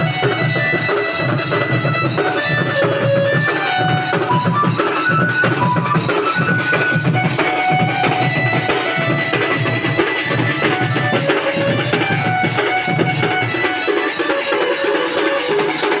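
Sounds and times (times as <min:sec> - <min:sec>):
drum band playing: 0:00.0 - 0:16.0
high melody of held notes: 0:00.0 - 0:16.0.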